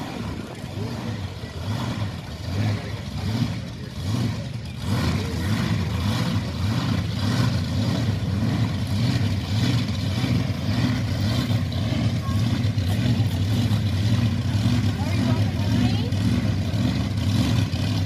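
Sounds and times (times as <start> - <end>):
monster truck engine rumbling: 0.0 - 18.0.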